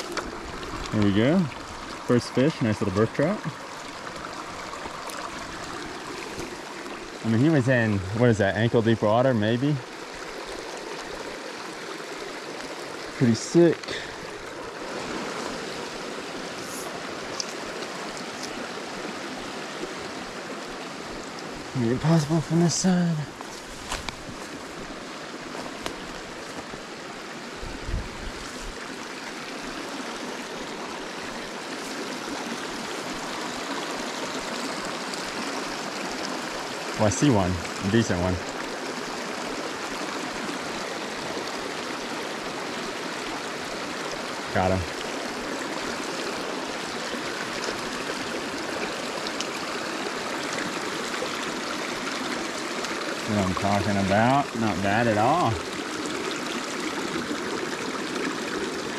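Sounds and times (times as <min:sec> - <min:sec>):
creek running over stones: 0:00.0 - 0:58.9.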